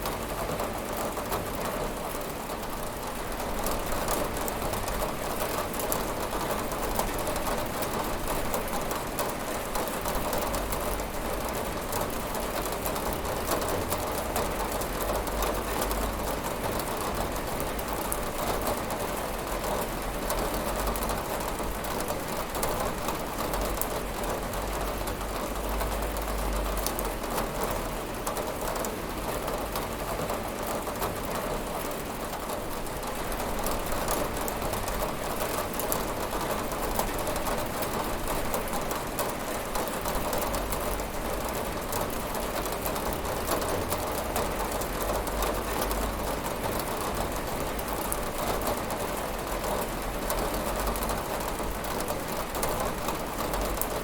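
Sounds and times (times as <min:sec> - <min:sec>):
rain pattering on window: 0:00.0 - 0:54.0.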